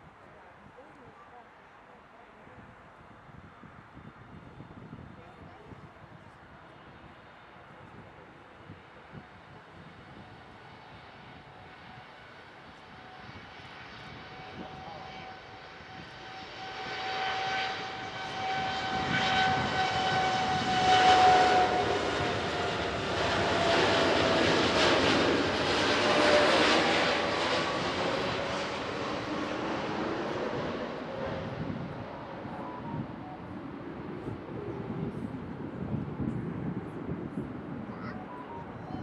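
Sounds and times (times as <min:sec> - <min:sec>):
jet engine whine: 0:03.4 - 0:39.0
jet engines at takeoff thrust: 0:05.7 - 0:38.9.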